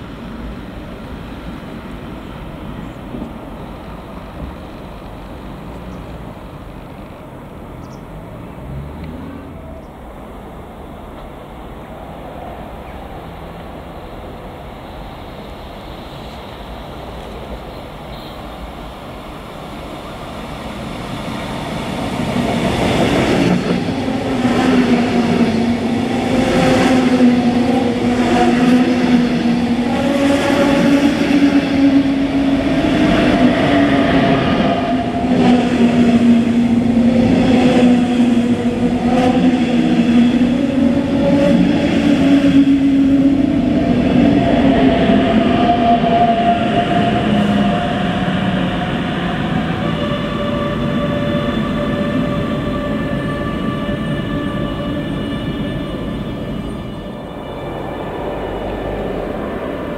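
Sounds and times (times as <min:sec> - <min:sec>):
train hum: 0:00.0 - 0:59.9.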